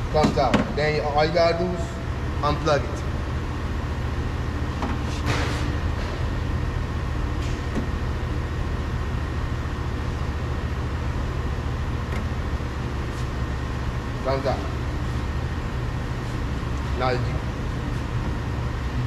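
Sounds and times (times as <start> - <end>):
shop machinery hum: 0.0 - 19.0.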